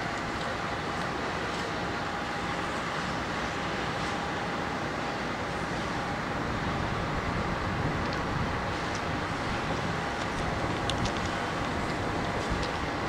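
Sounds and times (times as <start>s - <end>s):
diesel locomotive engines running: 0.0s - 13.0s.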